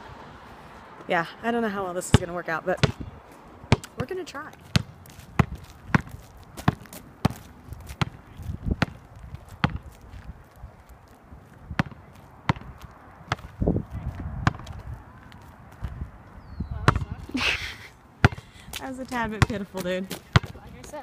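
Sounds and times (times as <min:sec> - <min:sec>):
basketball bouncing on asphalt: 0:01.7 - 0:17.3, 0:18.2 - 0:21.0.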